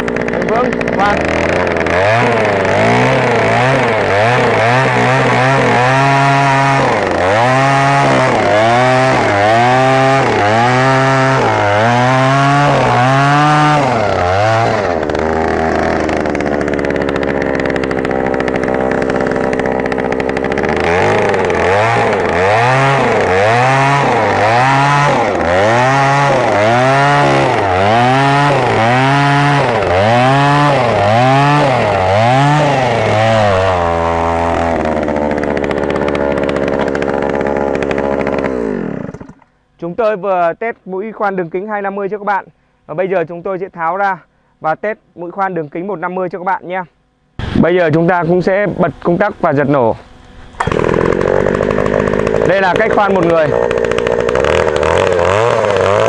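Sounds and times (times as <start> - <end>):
earth auger engine revving: 0.0 - 40.2, 47.4 - 56.0.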